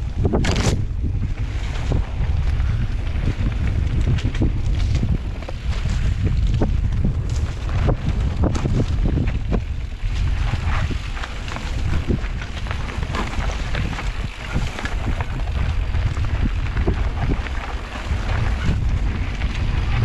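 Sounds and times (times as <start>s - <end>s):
bike rattling over rough ground: 0.0s - 20.0s
wind buffeting microphone: 0.0s - 20.0s.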